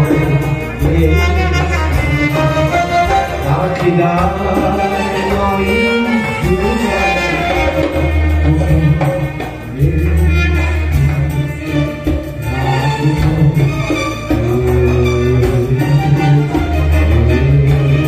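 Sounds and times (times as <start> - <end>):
bass-heavy beat: 0.0 - 18.0
man singing: 0.0 - 18.0.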